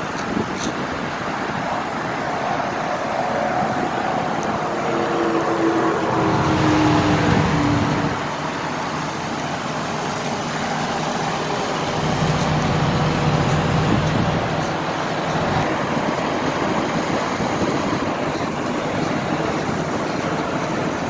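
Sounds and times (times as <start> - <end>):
diesel bus engine running: 0.0 - 21.0.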